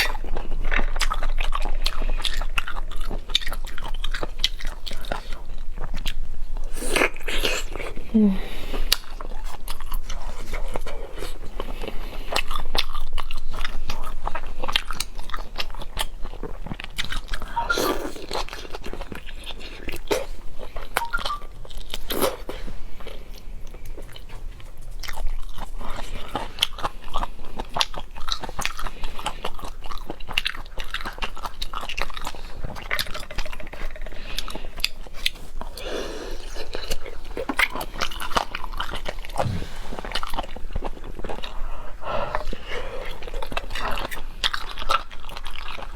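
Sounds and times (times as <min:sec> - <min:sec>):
person chewing seafood: 0:00.0 - 0:45.9.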